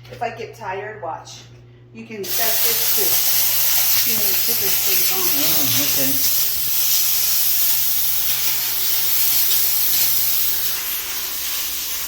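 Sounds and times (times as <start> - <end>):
steam cleaner hissing: 2.2 - 12.0.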